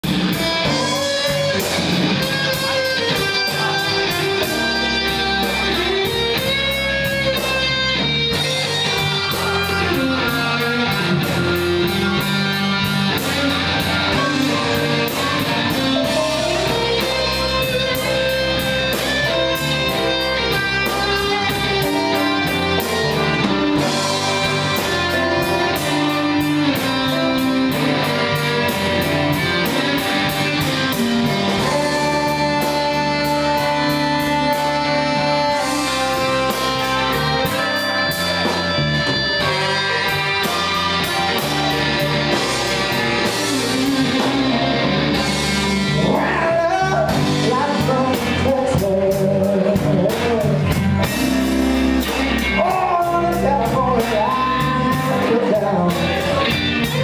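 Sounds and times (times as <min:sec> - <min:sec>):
bass guitar: 0:00.0 - 0:57.0
drums: 0:00.0 - 0:57.0
electric guitar: 0:00.0 - 0:57.0.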